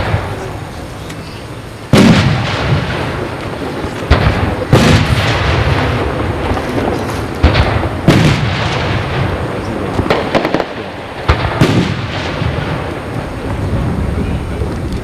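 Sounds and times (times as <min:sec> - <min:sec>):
firework shells bursting with bangs: 0:00.0 - 0:14.8
crackle of small firework bursts: 0:00.0 - 0:15.0.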